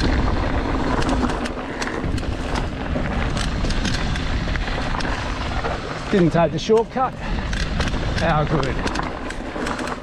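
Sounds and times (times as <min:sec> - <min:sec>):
bike clicking and rattling: 0:00.0 - 0:10.0
tyres and wind rumble: 0:00.0 - 0:10.0.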